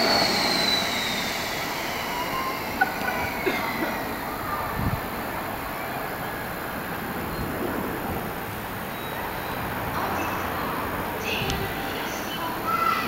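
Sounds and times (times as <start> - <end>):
electric locomotive rolling slowly: 0.0 - 13.0.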